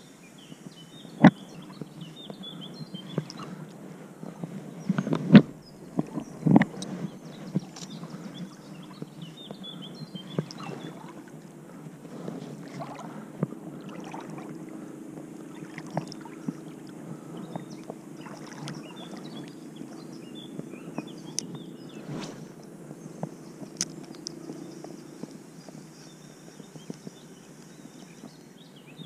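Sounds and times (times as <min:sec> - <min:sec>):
river water running: 0:00.0 - 0:29.0.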